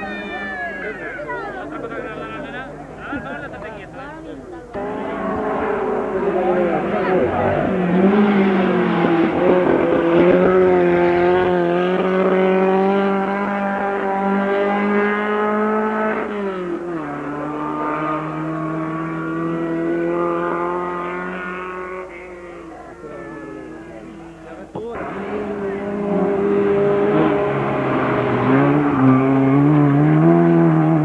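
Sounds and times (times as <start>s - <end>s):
race car engine at high revs: 4.6s - 31.0s.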